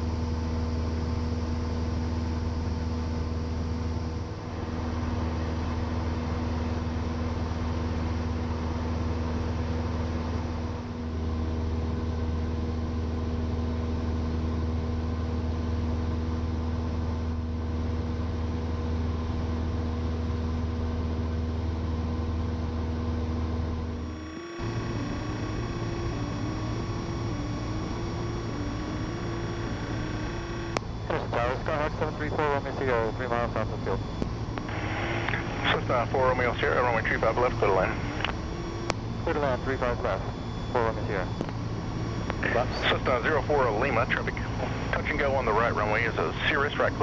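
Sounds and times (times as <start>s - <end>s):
airplane engine and propeller droning: 0.0s - 18.6s, 20.6s - 47.0s.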